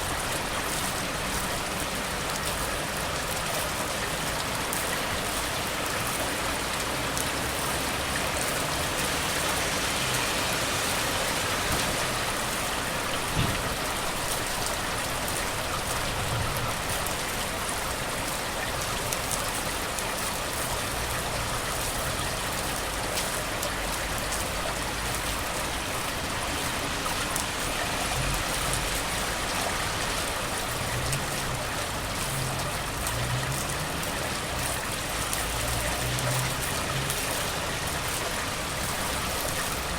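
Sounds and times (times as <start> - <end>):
heavy rain hiss: 0.0 - 39.9
road traffic rumble: 0.0 - 39.9.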